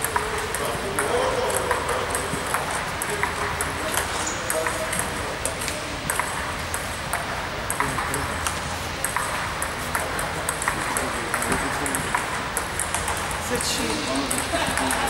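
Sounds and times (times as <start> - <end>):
table tennis ball clicking: 0.0 - 15.0.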